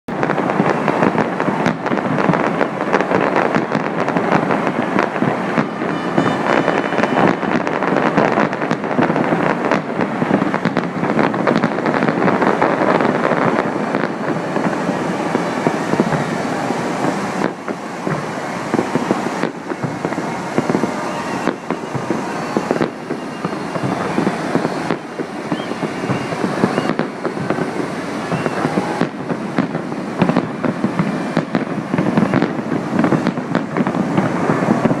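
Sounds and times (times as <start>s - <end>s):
fireworks bangs and crackles: 0.1s - 35.0s.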